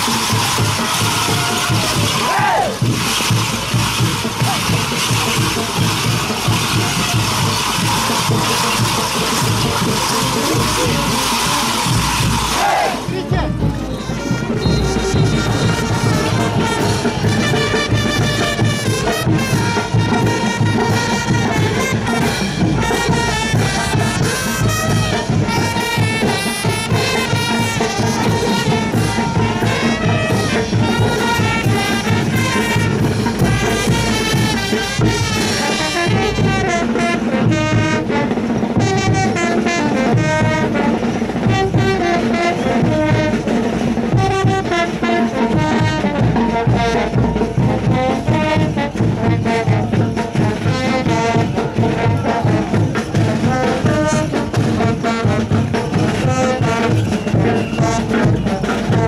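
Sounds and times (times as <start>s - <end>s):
brass band playing dance tune: 0.0s - 59.0s.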